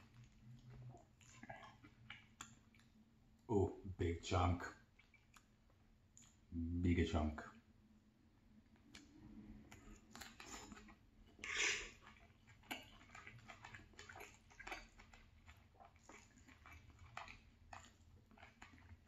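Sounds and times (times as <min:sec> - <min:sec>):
chewing with wet mouth clicks: 0:00.0 - 0:03.5, 0:04.8 - 0:06.5, 0:08.6 - 0:19.0.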